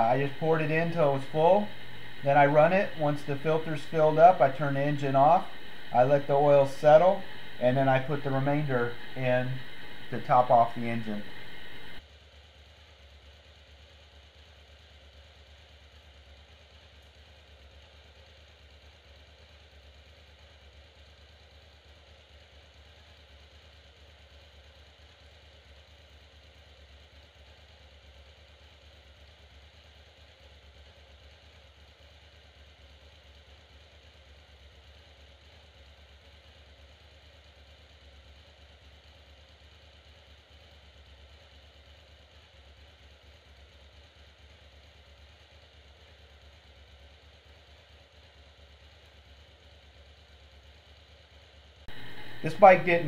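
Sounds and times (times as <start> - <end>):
faint low hum with hiss: 0.0 - 53.0.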